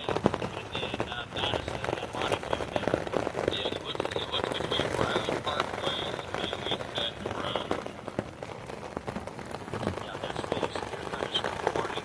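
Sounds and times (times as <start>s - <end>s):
rain drumming on tent: 0.0s - 12.0s.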